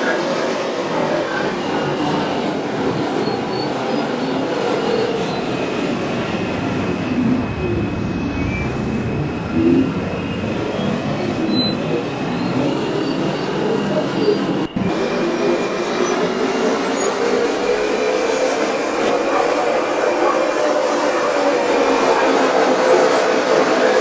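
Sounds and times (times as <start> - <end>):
subway train rumbling on track: 0.0 - 24.0.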